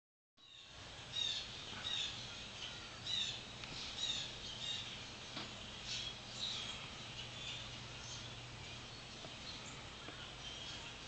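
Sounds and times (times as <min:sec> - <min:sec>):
faint low hum: 0:00.4 - 0:11.0
flock of blackbirds calling: 0:00.4 - 0:11.0.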